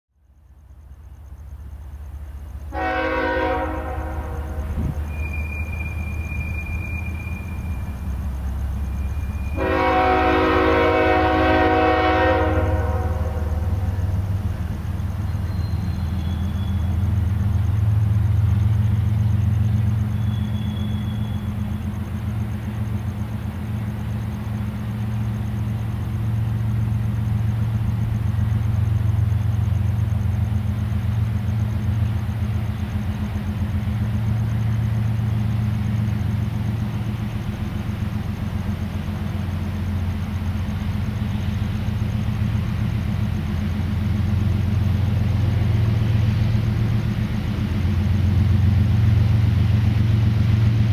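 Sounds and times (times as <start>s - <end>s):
diesel locomotive engine drone: 0.1s - 50.9s.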